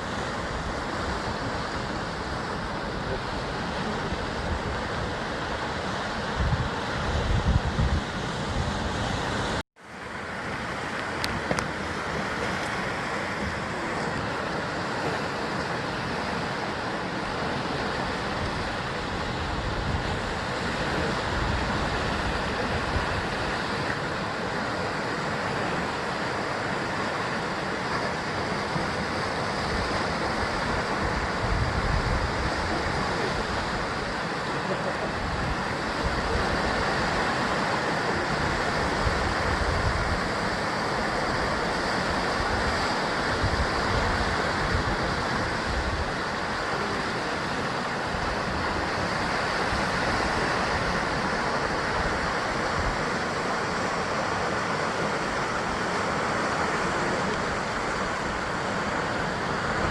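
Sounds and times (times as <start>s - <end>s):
waves breaking on rocky shore: 0.0s - 59.9s.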